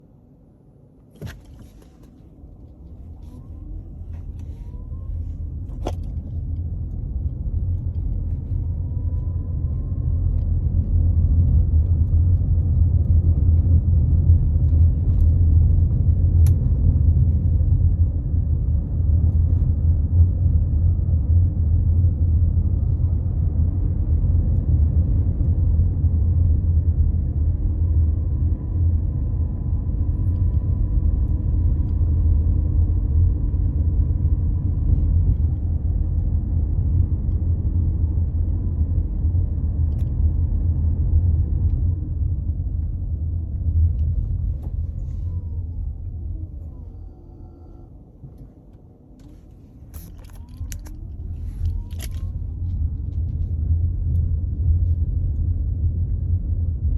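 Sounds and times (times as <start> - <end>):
road rumble inside car: 0.0 - 56.9
whine: 0.0 - 56.9.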